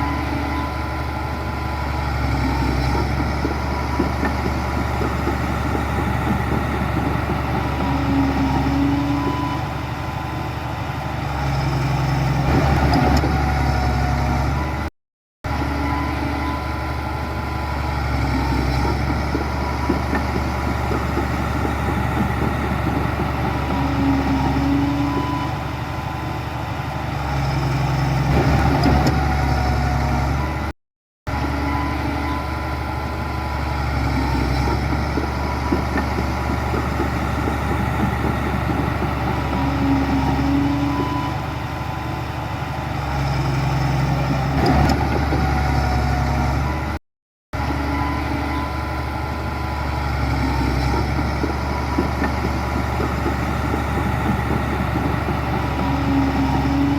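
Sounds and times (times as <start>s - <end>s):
heavy diesel engine running: 0.0s - 30.7s, 31.3s - 47.0s, 47.6s - 56.9s.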